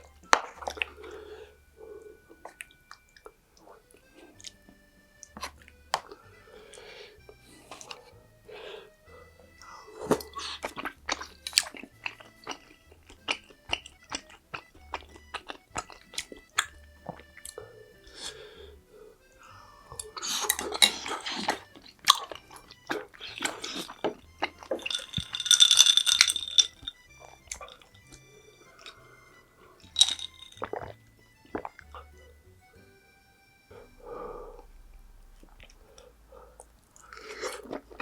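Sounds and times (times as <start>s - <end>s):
crunchy food chewing: 0.0s - 8.2s, 9.1s - 32.3s, 35.3s - 38.0s
soft background music with beat: 0.0s - 38.0s.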